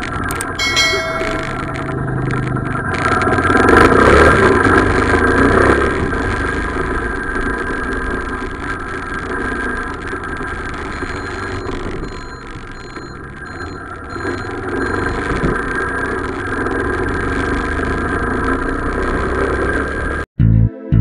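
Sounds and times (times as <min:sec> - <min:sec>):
motorcycle engine: 0:00.0 - 0:12.0, 0:13.2 - 0:20.2
road noise: 0:00.0 - 0:20.3.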